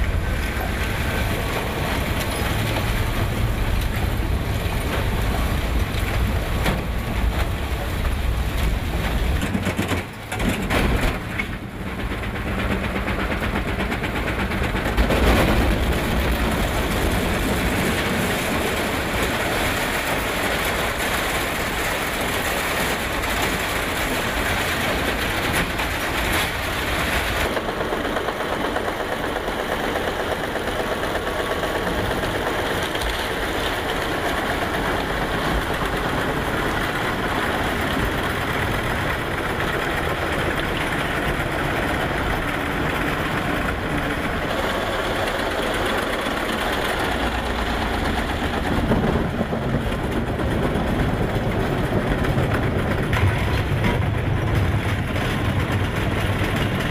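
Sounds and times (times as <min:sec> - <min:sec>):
heavy crushing machinery running: 0:00.0 - 0:56.9.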